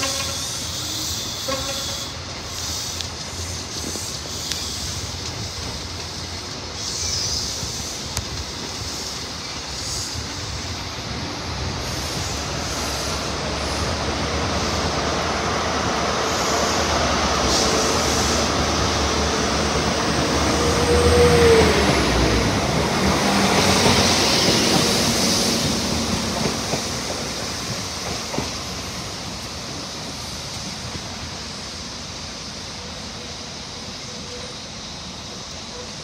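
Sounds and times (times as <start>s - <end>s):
train passing: 0.0s - 36.0s.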